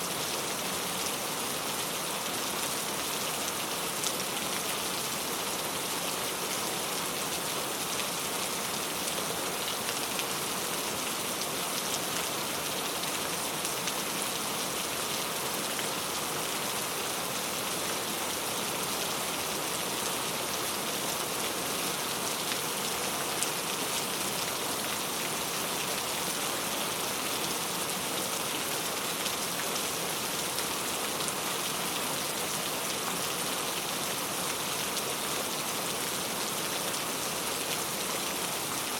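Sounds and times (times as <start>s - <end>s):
very heavy rain: 0.0s - 38.9s.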